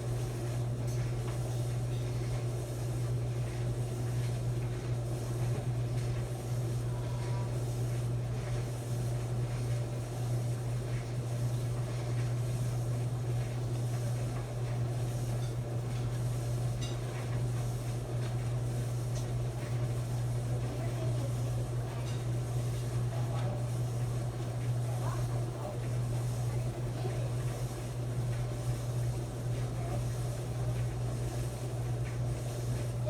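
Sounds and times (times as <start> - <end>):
clothes dryer humming: 0.0 - 33.0.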